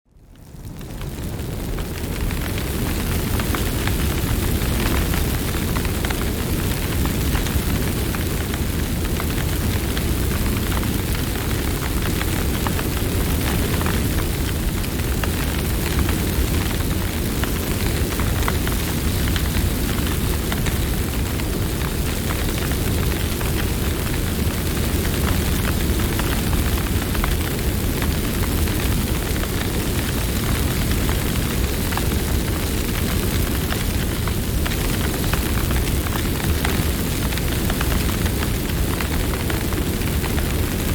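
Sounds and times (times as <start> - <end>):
campfire crackling and popping: 0.2 - 40.9.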